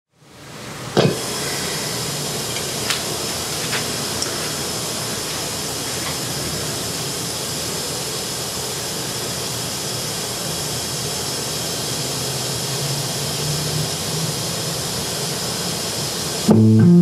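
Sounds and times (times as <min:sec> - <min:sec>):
steady hiss: 0:00.3 - 0:16.5.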